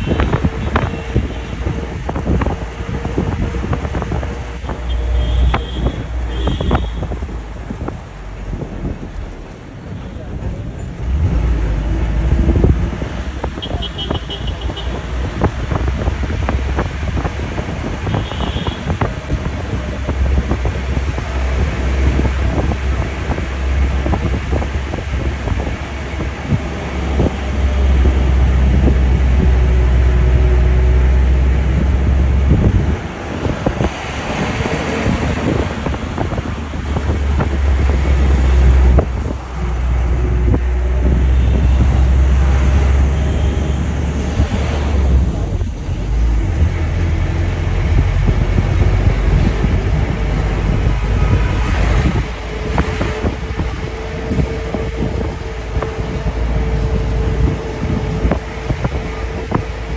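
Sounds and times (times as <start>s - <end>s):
vehicle engine and road rumble: 0.0s - 59.9s
wind on microphone: 0.0s - 59.9s.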